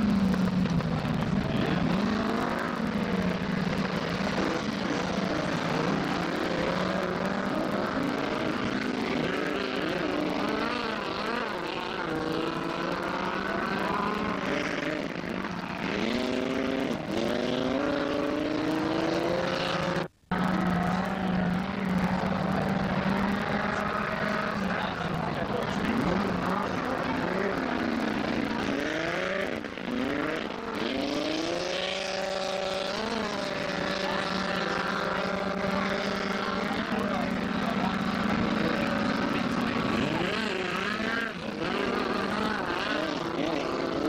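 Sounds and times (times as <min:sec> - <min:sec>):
low engine drone: 0:00.0 - 0:44.0
race car engines revving: 0:00.0 - 0:44.0.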